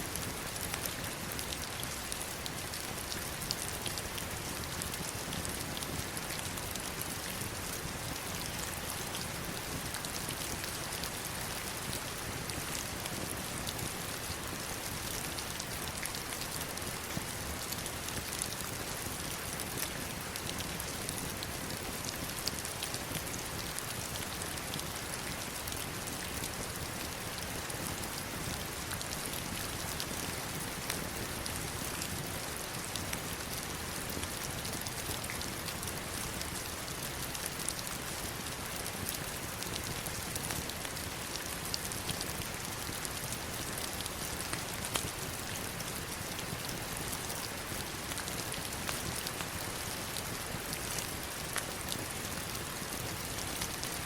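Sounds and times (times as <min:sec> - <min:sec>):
heavy rain on stones and water: 0:00.0 - 0:54.0.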